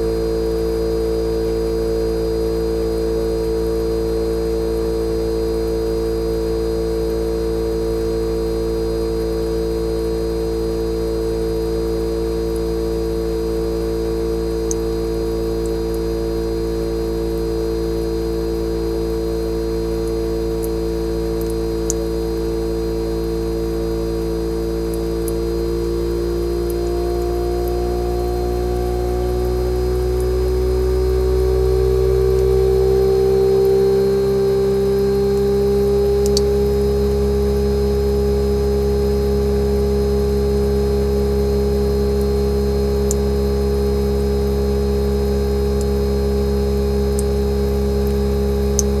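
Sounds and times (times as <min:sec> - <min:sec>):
air conditioner compressor hum: 0:00.0 - 0:49.0.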